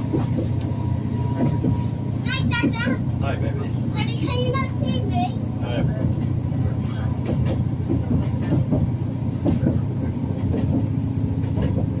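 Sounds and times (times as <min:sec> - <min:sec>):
train running gear rumble: 0:00.0 - 0:12.0
wheels clacking on rails: 0:00.0 - 0:12.0.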